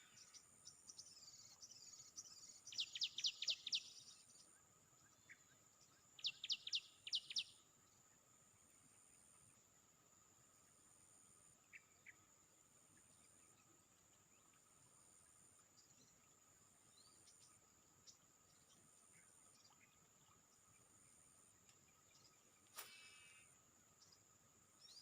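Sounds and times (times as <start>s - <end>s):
insect chirps: 0.0s - 25.0s
insect chorus drone: 0.0s - 25.0s
insect trill: 0.0s - 25.0s.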